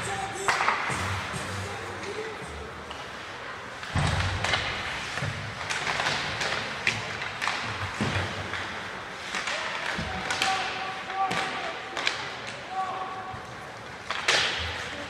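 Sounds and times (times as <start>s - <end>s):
hockey sticks clacking on puck: 0.0s - 15.0s
rink background noise: 0.0s - 15.0s.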